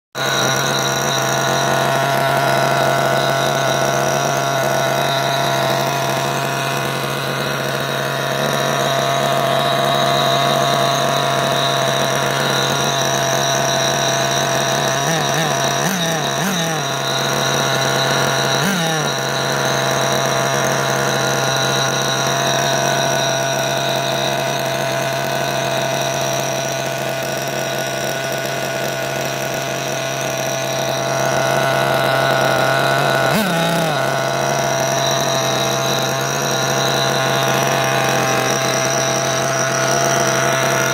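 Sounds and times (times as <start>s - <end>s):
nitro engine idling: 0.1s - 40.9s.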